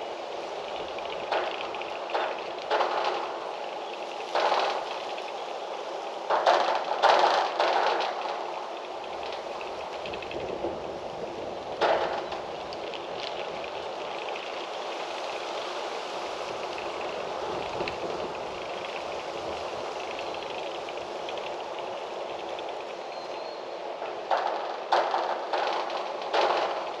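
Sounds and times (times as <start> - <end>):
wind rustling trees: 0.0 - 27.0.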